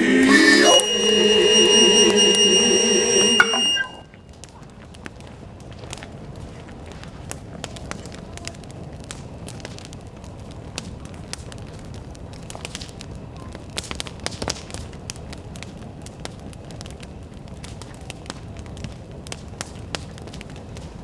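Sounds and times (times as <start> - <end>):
bonfire crackling and popping: 4.1 - 21.0.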